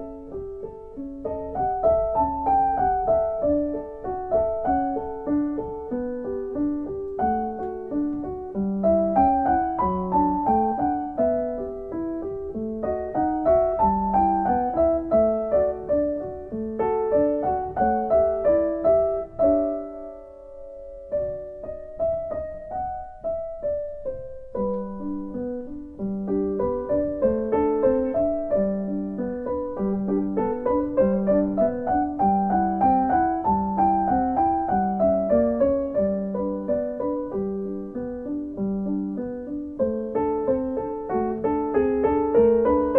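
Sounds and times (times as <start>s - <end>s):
piano music: 0.0s - 42.9s.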